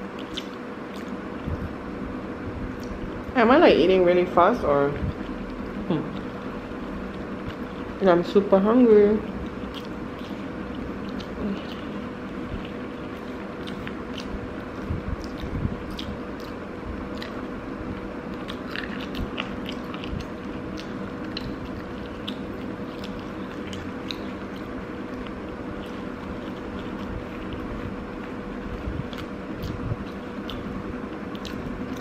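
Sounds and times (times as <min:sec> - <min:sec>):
person chewing with wet clicks: 0:00.0 - 0:01.8, 0:02.7 - 0:03.4, 0:05.0 - 0:32.0
steady background hum: 0:00.0 - 0:32.0.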